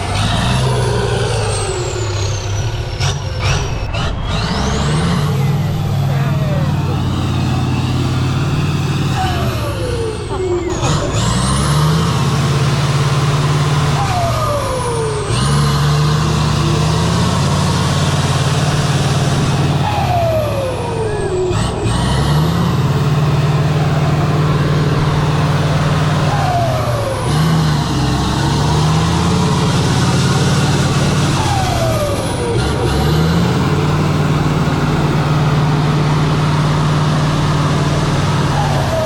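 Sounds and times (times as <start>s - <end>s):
truck engine running under load: 0.0s - 39.0s.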